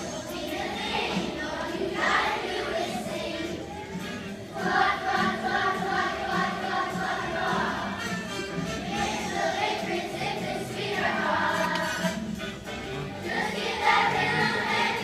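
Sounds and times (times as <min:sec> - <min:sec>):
children singing: 0:00.0 - 0:12.4, 0:13.2 - 0:15.0.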